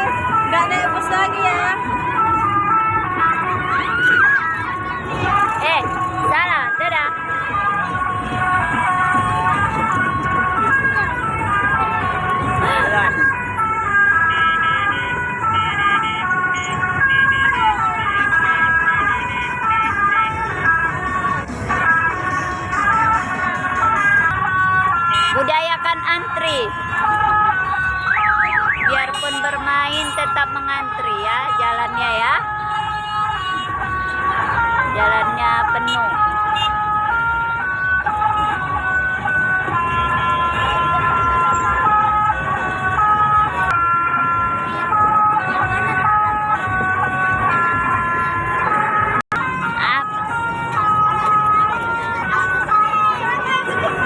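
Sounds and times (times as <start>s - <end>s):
vehicle horn playing a tune: 0.0s - 54.0s.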